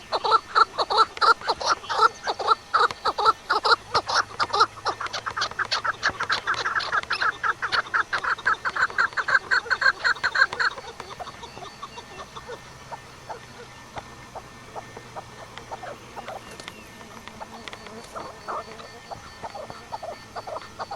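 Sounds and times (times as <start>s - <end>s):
bird calling harsh repeated notes: 0.0s - 20.9s.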